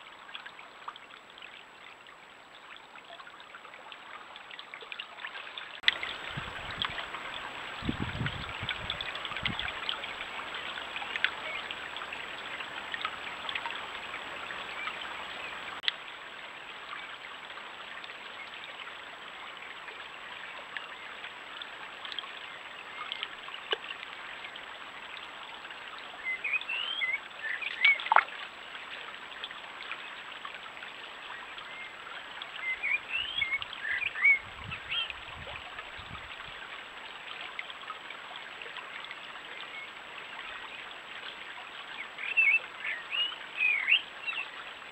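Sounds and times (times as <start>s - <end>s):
stream trickling over stones: 0.0s - 44.9s.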